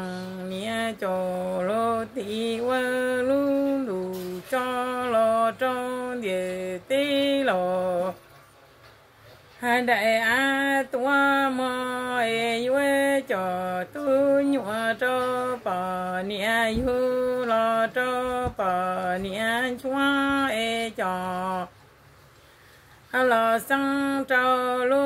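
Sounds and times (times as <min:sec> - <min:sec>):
woman singing unaccompanied: 0:00.0 - 0:08.3, 0:09.6 - 0:21.8, 0:23.1 - 0:25.0.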